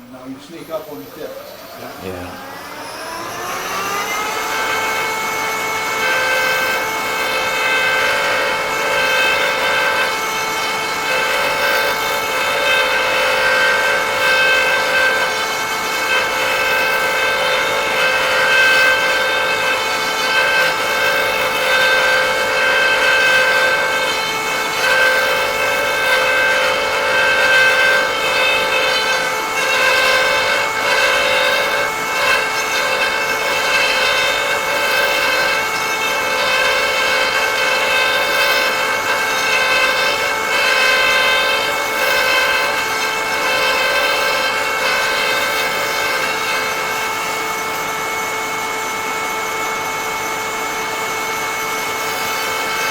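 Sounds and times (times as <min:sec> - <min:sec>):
high-speed motor whining: 0:00.0 - 0:52.9
cutter rasping into wood: 0:00.4 - 0:52.9.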